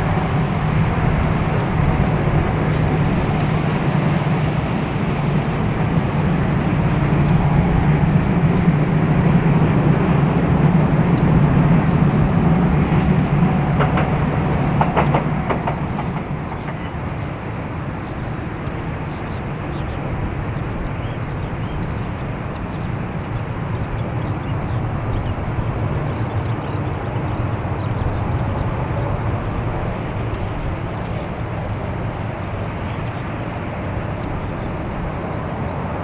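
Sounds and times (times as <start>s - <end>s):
jet engines running at low power: 0.0s - 36.0s.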